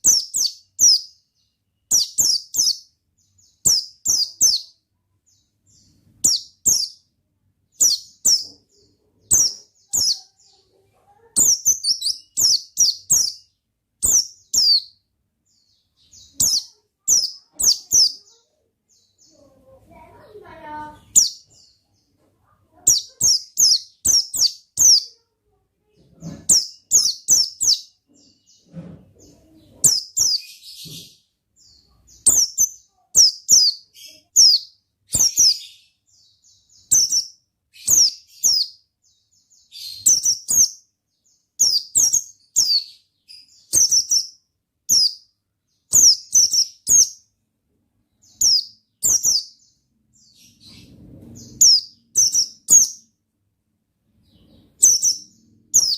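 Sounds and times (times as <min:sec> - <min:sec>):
bird chirping: 0:00.0 - 0:55.9.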